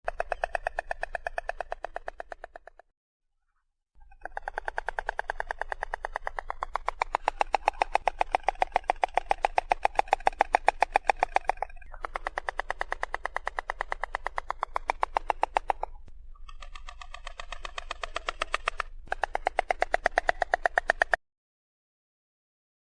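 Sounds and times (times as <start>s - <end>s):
stork clattering its bill: 0.1s - 2.8s, 4.0s - 21.2s.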